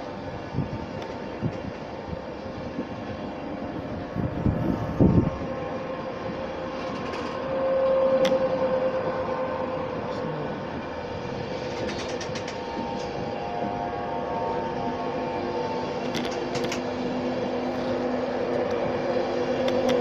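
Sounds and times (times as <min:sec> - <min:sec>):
electric locomotive hum and whine: 0:00.0 - 0:20.0.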